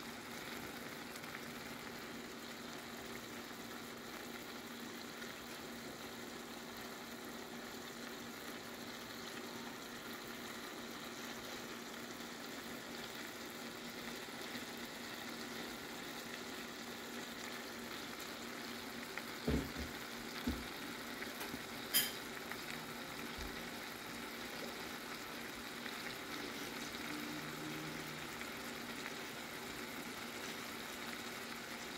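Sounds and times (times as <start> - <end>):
fish sizzling in butter: 0.0 - 31.9.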